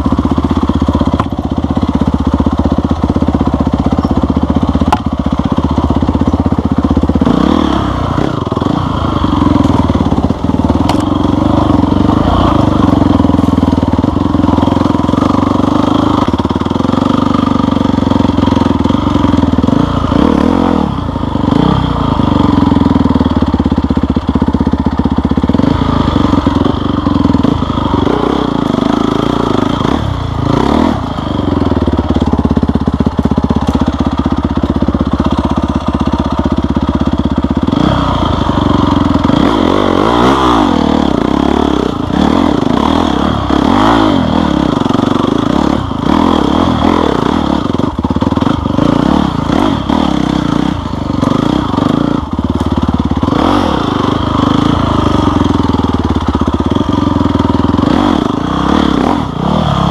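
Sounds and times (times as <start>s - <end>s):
off-road vehicle engine under load: 0.0s - 59.9s.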